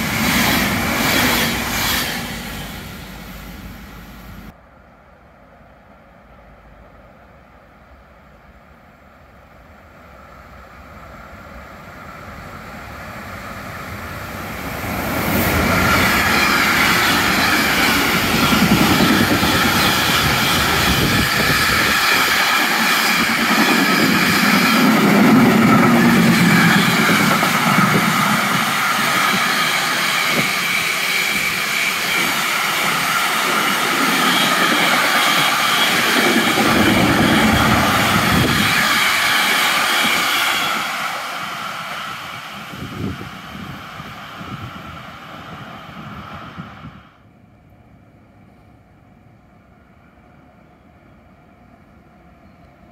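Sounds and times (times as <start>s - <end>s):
freight train passing: 0.0s - 52.9s.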